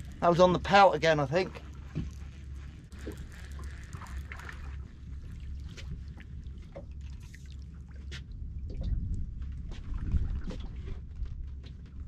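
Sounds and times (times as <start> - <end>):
water lapping against boat hull: 0.0 - 12.0
wind rumbling on microphone: 0.0 - 12.0.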